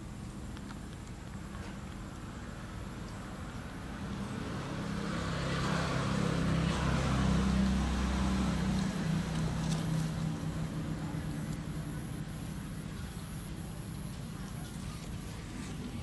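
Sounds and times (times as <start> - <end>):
passing vehicle engine hum: 2.2 - 16.0.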